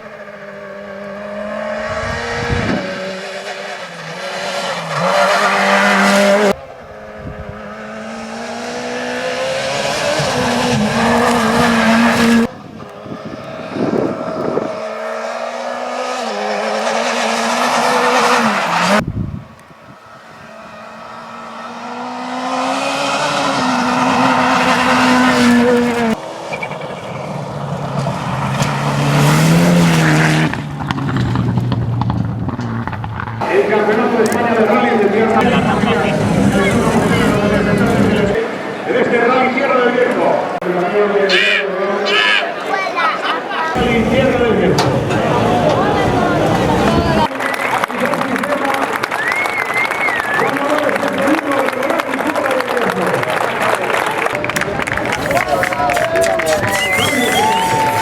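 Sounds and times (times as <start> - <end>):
rally car engines revving past: 0.0 - 40.7, 43.7 - 47.3, 53.2 - 58.0.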